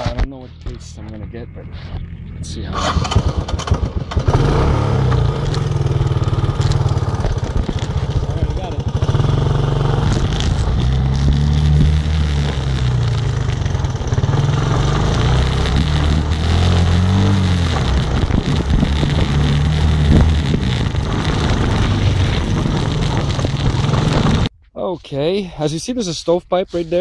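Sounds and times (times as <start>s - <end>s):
vehicle engine running: 0.0s - 24.5s.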